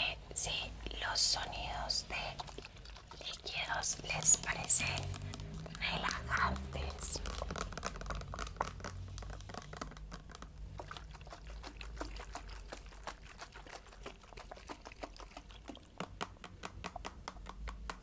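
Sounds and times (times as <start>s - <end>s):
liquid being poured: 0.0s - 17.6s.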